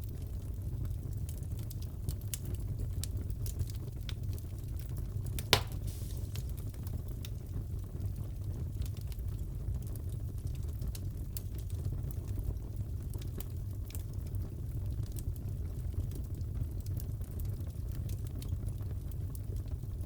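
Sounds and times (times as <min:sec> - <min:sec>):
fire popping and snapping: 0:00.1 - 0:20.0
fire rumbling: 0:00.1 - 0:20.0.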